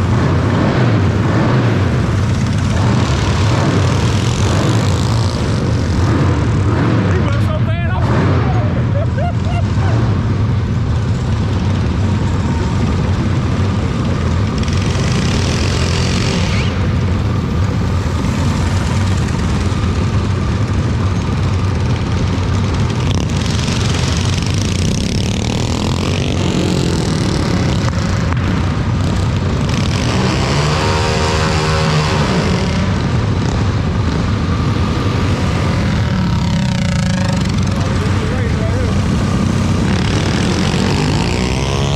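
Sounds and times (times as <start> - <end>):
vehicle engine rumble: 0.0 - 41.9.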